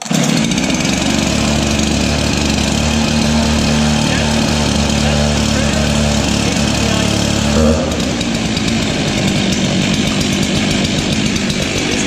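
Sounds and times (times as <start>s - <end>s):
chainsaw engine idling: 0.0s - 12.0s.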